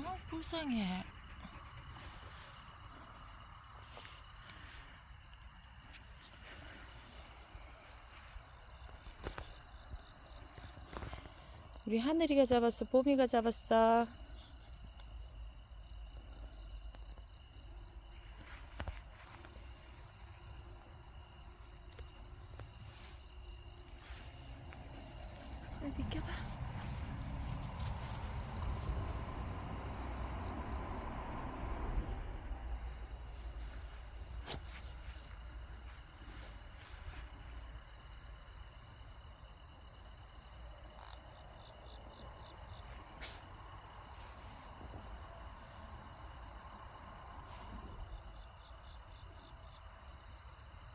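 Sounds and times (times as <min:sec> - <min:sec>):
insects chirring: 0:00.0 - 0:50.9.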